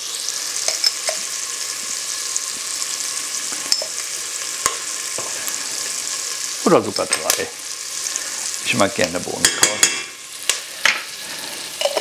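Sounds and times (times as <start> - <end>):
bacon and onions sizzling: 0.0 - 12.0.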